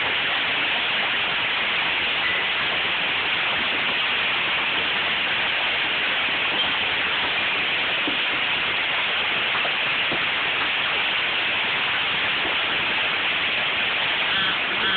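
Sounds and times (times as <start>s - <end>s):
heavy rain pouring: 0.0s - 14.9s.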